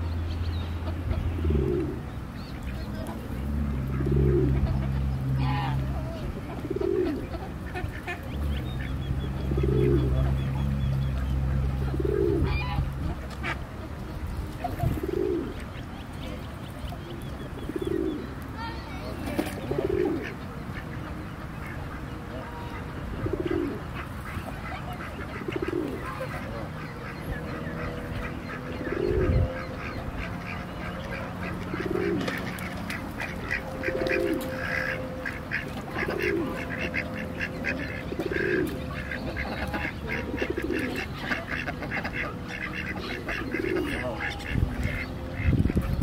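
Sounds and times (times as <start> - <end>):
ducks and geese calling: 0.0 - 46.0.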